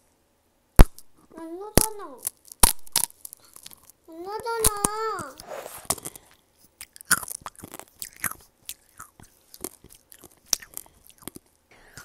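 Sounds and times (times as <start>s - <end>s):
candy shell crunching: 1.7s - 11.6s
biting and chewing candy: 1.7s - 12.0s.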